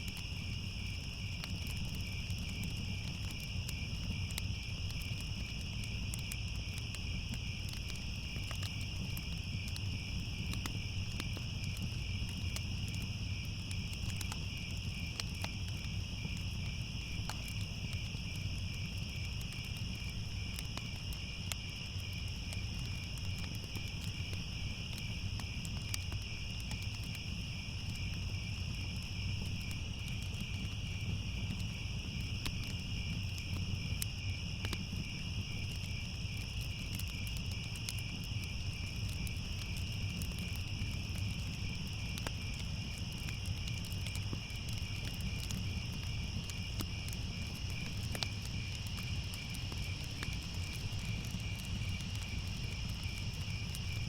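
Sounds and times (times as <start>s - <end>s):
crickets trilling: 0.0s - 54.0s
fire crackling and popping: 0.0s - 54.0s.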